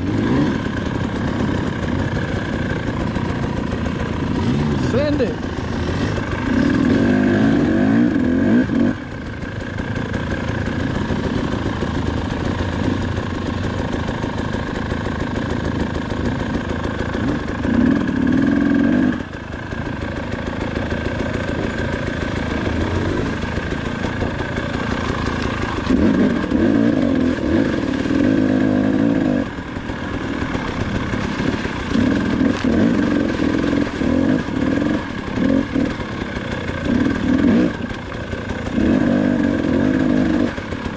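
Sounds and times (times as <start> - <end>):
two-stroke engine revving: 0.0 - 40.9.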